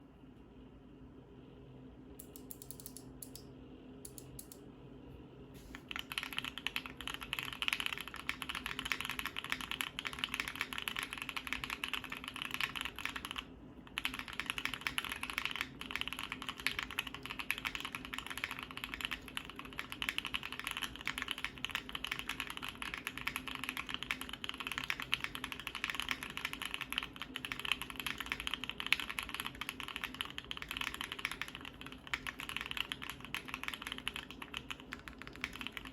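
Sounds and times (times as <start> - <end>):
typing on mechanical keyboard: 5.7 - 35.9.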